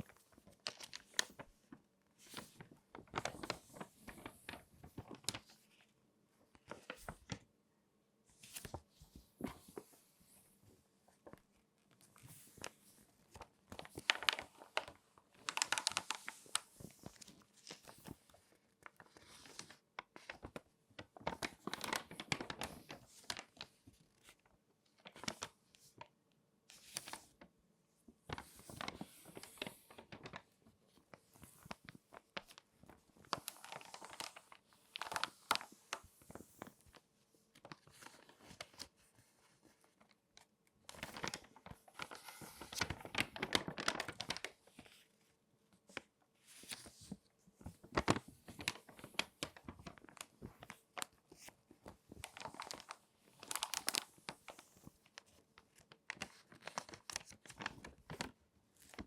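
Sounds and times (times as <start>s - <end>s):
magazine pages crinkling: 0.1s - 5.8s, 12.1s - 26.0s, 28.3s - 45.0s, 45.9s - 59.0s.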